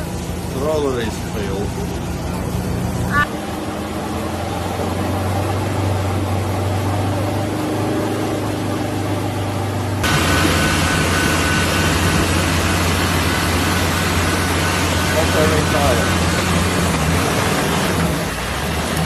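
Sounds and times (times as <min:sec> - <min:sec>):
loud noisy engine: 0:00.0 - 0:19.0
off-road vehicle engine running: 0:00.0 - 0:19.0.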